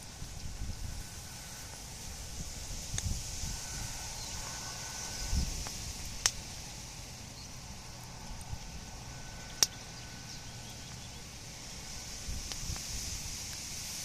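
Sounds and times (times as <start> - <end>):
wood popping in fire: 0.0 - 4.3, 5.0 - 14.0
bonfire hiss: 0.0 - 14.0
low outdoor rumble: 0.0 - 14.0.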